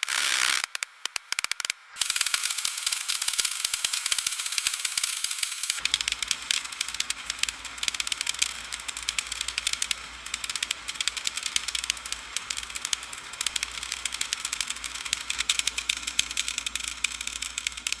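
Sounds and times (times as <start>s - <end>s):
freezing rain ticking on icy branches: 0.5s - 18.0s.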